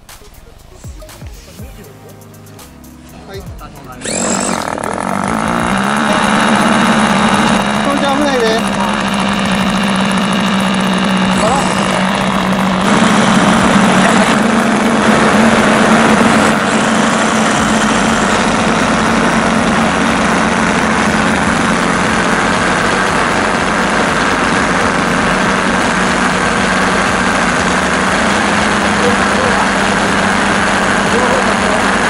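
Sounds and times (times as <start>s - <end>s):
model aircraft engines idling: 3.2s - 32.0s.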